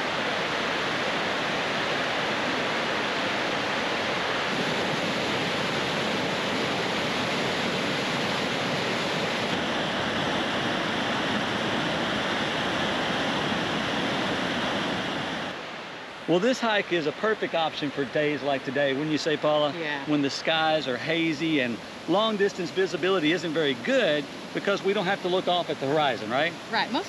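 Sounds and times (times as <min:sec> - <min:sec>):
river water rushing through cascades: 0:00.0 - 0:27.0.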